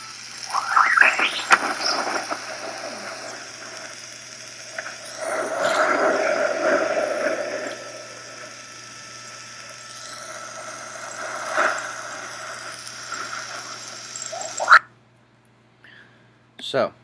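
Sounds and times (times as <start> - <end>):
noisy hum with pitch bands: 0.0 - 16.3.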